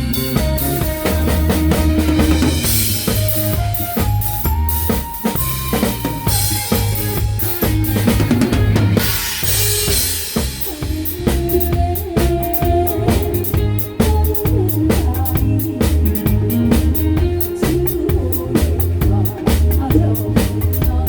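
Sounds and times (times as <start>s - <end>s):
bass line: 0.0s - 21.0s
drum kit beat: 0.0s - 21.0s
held melody line: 0.0s - 21.0s.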